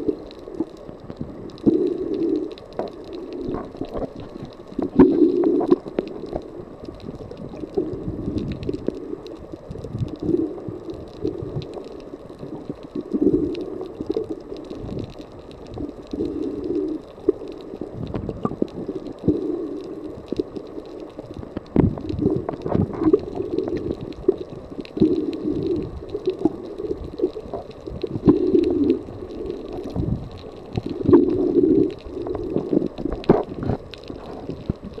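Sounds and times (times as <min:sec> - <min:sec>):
underwater gurgling rumbles: 0:00.0 - 0:35.0.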